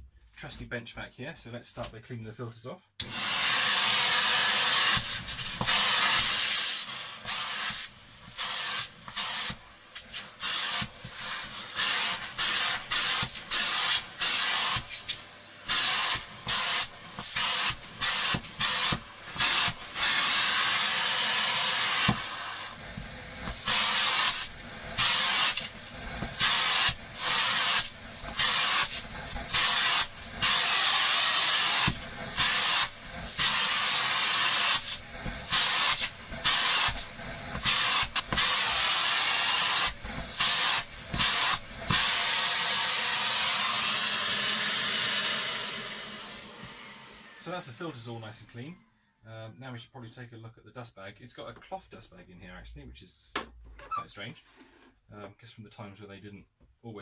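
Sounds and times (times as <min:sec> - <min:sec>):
vacuum cleaner suction rush: 0:03.0 - 0:49.0.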